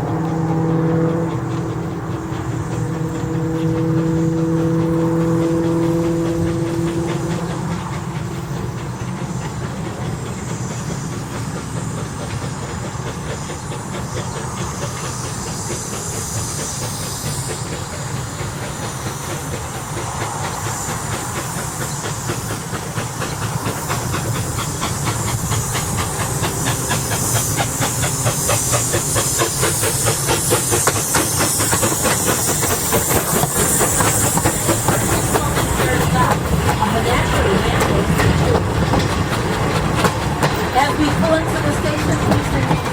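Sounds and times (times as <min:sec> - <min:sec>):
rail clatter: 0:00.0 - 0:42.9
steam exhaust beat: 0:00.0 - 0:42.9
steam hissing: 0:00.0 - 0:42.9.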